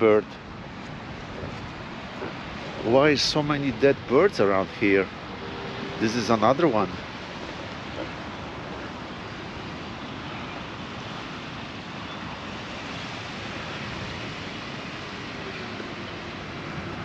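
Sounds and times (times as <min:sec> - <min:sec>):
ocean surf on sandy beach: 0:00.0 - 0:17.0
wind: 0:00.0 - 0:17.0.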